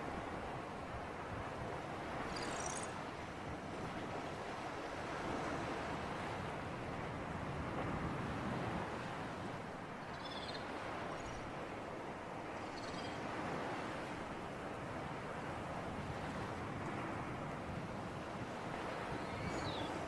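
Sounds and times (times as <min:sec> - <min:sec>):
waves washing: 0:00.0 - 0:10.0, 0:13.2 - 0:20.0.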